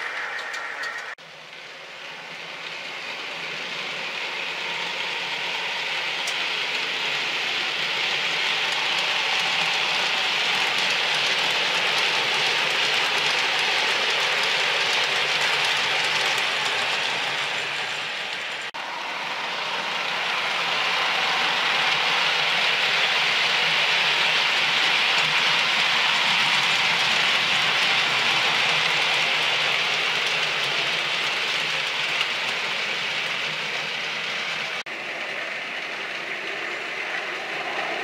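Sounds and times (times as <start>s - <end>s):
model train wheels rattling on rails: 0.0s - 18.8s, 19.4s - 38.0s.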